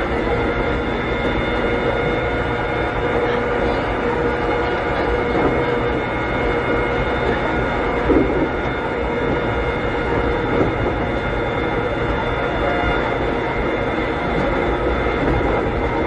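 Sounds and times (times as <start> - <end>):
traction motor whine: 0.0 - 16.0
train rolling noise: 0.0 - 16.0.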